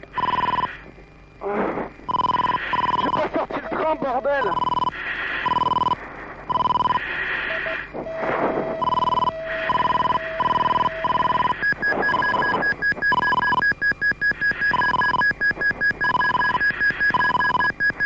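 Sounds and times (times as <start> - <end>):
low steady warning tone: 0.0 - 1.3, 2.1 - 18.0
fast high beeping: 2.1 - 18.0
repeating warning beep: 2.1 - 18.0.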